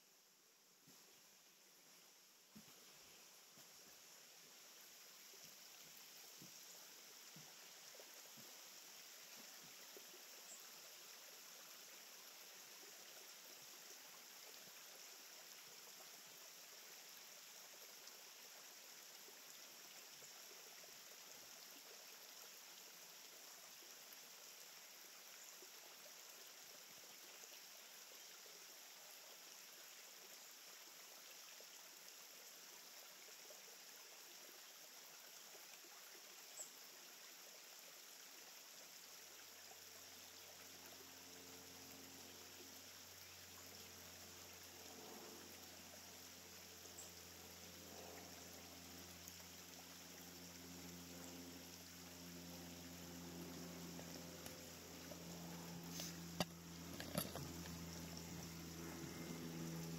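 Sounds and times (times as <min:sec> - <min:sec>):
faint rushing hiss: 0:00.0 - 0:59.9.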